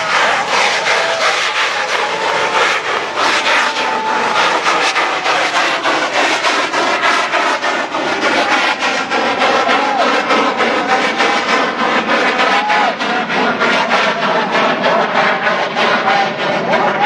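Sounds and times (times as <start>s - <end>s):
fireworks hissing and crackling: 0.0s - 16.0s.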